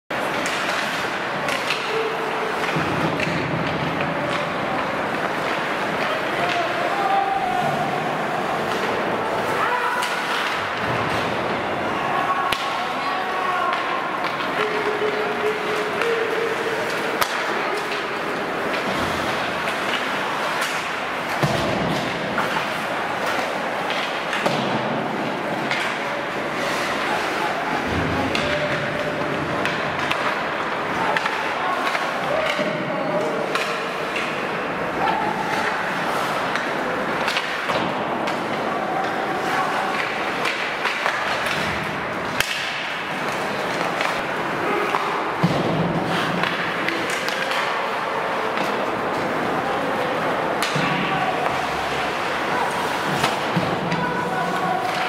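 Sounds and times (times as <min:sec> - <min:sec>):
skates and sticks on ice: 0:00.1 - 0:55.0.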